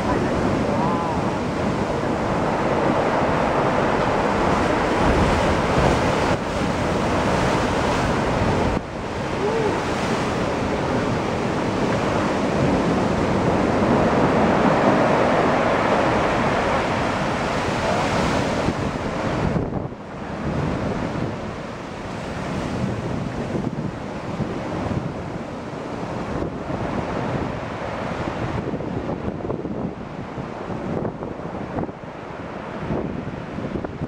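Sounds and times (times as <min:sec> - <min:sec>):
surf crashing against rocks: 0:00.0 - 0:34.0
wind buffeting microphone: 0:00.0 - 0:34.0.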